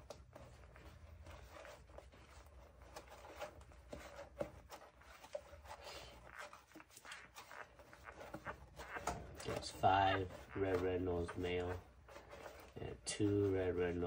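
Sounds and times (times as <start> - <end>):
small clicks and rustles: 0.0 - 14.0.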